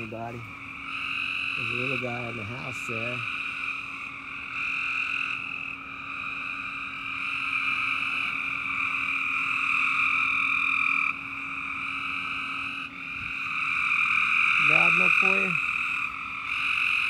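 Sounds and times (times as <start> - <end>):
frogs chorus: 0.0 - 17.0.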